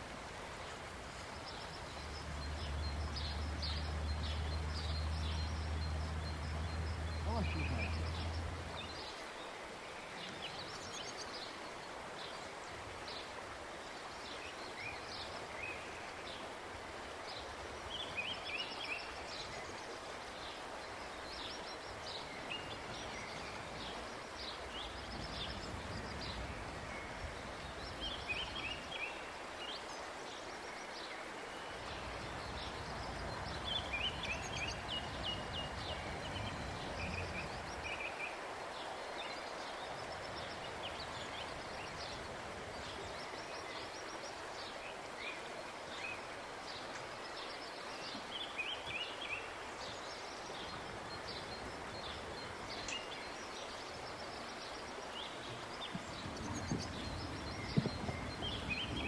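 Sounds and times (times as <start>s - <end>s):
small birds chirping: 0.6s - 12.8s, 17.9s - 59.0s.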